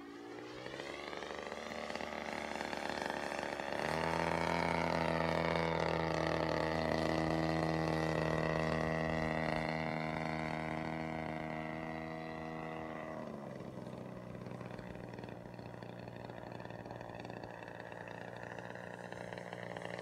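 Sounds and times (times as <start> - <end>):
model airplane motor and propeller: 0.0 - 20.0.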